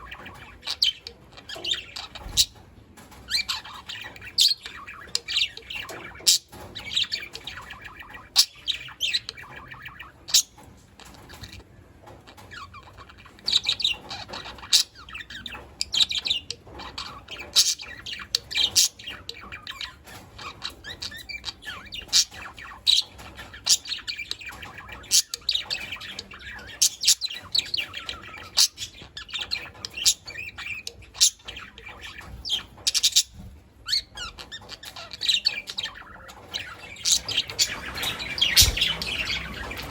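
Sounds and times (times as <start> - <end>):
budgerigars chattering: 0.0 - 2.6, 3.3 - 11.6, 12.4 - 39.9.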